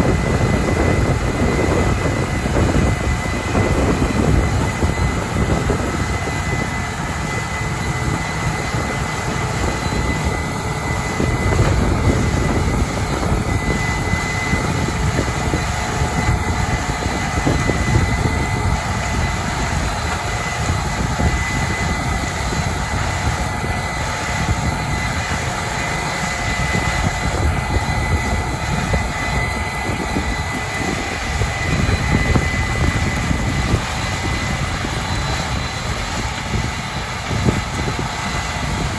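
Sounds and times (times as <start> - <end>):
combine harvester engine droning: 0.0 - 38.9
thin steady whine: 0.0 - 38.9.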